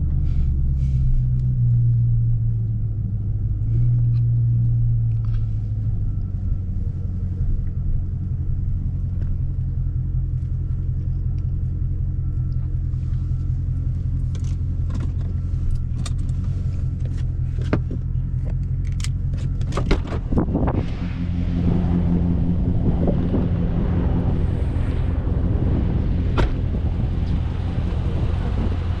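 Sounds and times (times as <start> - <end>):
car engine running at low revs: 0.0 - 29.0.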